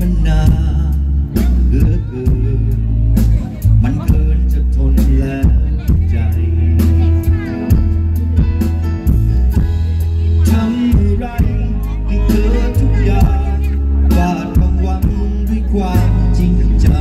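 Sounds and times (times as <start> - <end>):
man singing into microphone: 0.0 - 7.8, 10.1 - 17.0
live rock band playing: 0.0 - 17.0.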